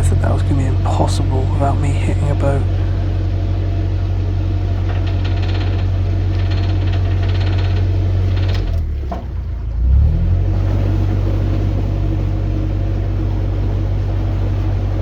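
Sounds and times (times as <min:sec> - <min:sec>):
diesel boat engine running: 0:00.0 - 0:15.0.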